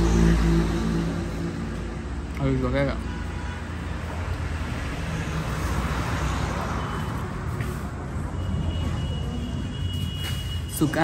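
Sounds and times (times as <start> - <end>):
road traffic rushing past: 0.0 - 11.0.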